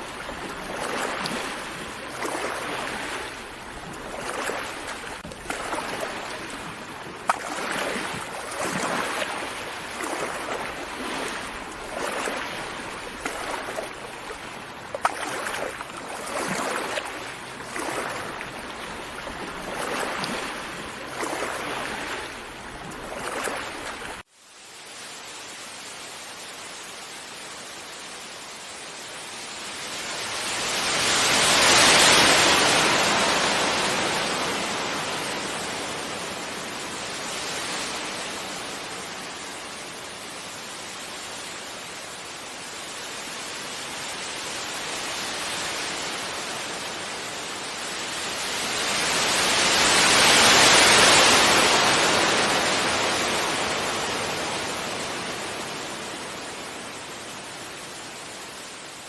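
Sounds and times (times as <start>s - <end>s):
ocean waves breaking: 0.0s - 24.3s, 30.3s - 59.0s.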